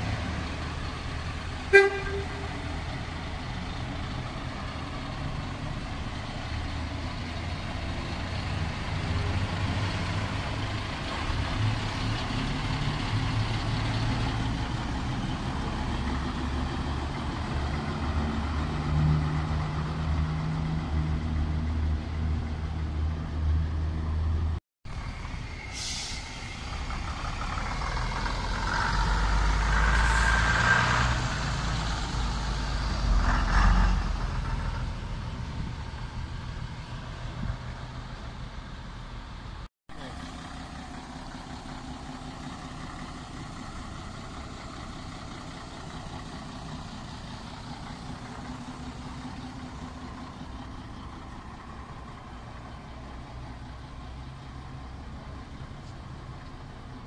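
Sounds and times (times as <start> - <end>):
bus engines rumbling: 0.0 - 57.0.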